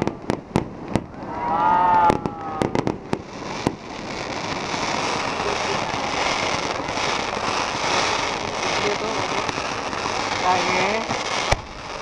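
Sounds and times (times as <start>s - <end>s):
firework bang: 0.0s - 12.0s
fireworks crackling: 0.0s - 12.0s.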